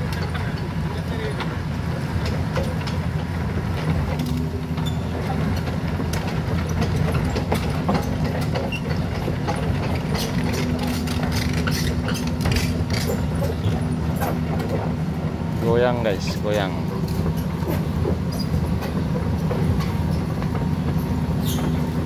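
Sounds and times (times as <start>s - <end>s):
diesel engine running: 0.0s - 22.0s
steel tracks clanking: 0.0s - 22.0s.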